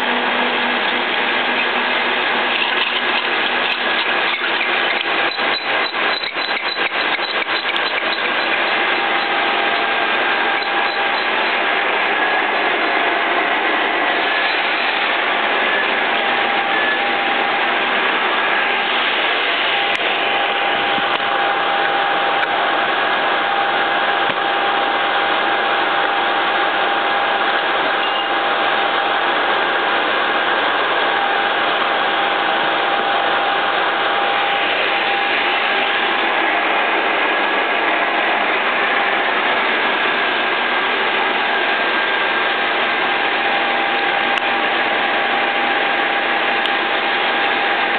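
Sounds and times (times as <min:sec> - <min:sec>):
boring machine running with whine: 0:00.0 - 0:47.9.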